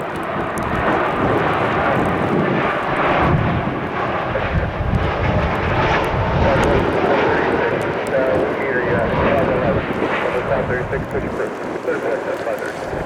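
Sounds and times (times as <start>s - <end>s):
jet engines rushing: 0.0s - 13.0s
wind on microphone: 0.0s - 13.0s.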